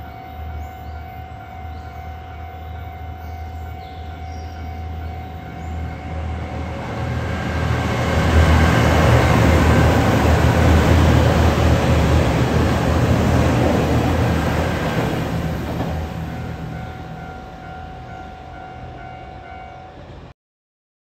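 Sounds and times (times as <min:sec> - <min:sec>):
diesel train engine rumble: 0:00.0 - 0:20.3.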